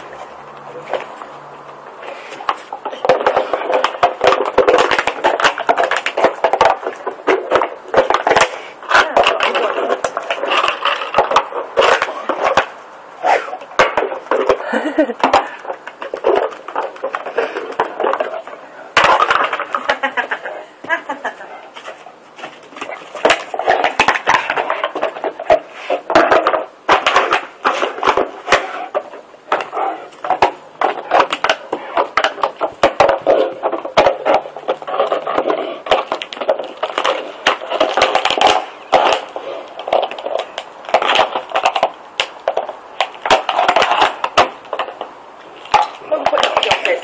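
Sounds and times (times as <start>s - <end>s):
dog crunching plastic bottle: 0.0s - 47.0s.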